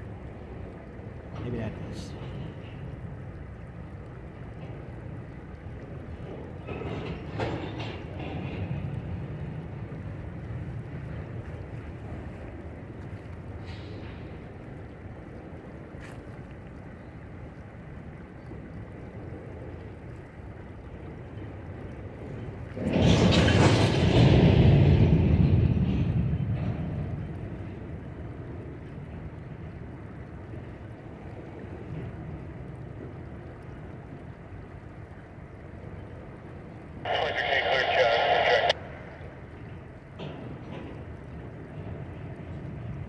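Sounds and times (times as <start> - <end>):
freight train rumbling over bridge: 0.0 - 16.0, 16.8 - 43.0.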